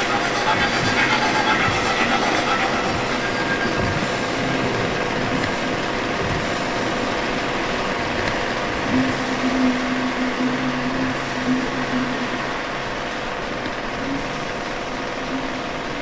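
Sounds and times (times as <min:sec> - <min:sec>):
faint steady tones: 0:00.0 - 0:16.0
low hum: 0:00.0 - 0:16.0
mechanical running noise: 0:00.0 - 0:16.0.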